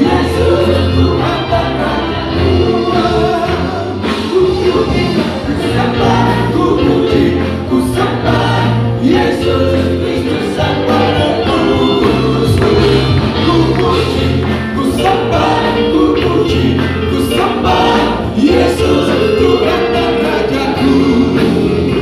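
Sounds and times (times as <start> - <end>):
band playing: 0.0 - 22.0
voices singing together: 0.0 - 22.0.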